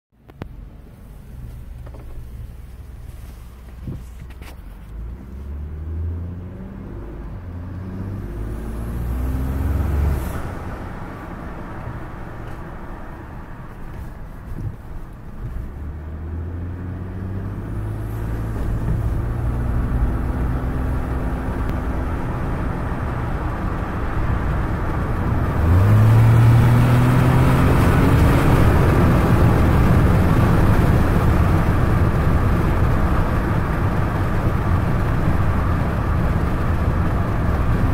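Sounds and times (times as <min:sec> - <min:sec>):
car engine accelerating hard: 0:04.8 - 0:37.9.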